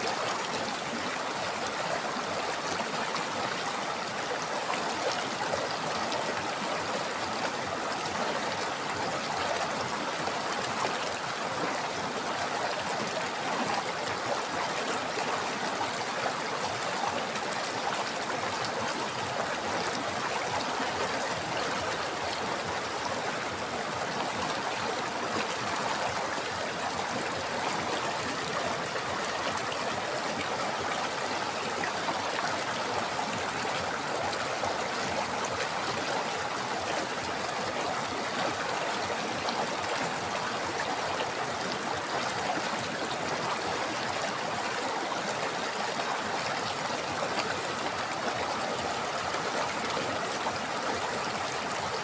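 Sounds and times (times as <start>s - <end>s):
river running over rocks: 0.0s - 52.0s.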